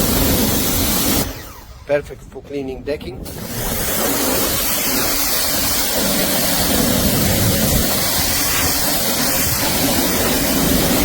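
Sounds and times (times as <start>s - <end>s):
pressure washer spraying: 0.0s - 1.9s, 3.2s - 11.0s.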